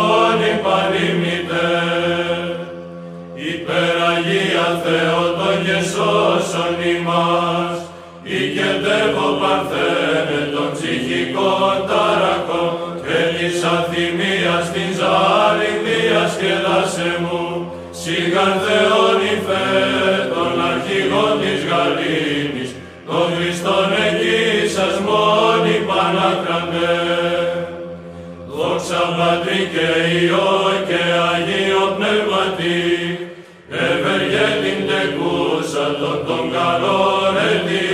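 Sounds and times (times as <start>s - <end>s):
choir chanting a hymn: 0.0s - 37.9s.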